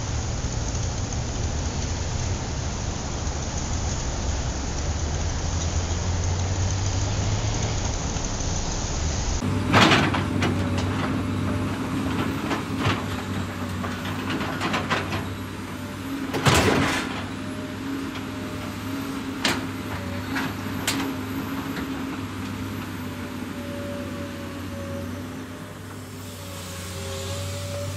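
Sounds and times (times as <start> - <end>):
steady hiss: 0.0 - 27.9.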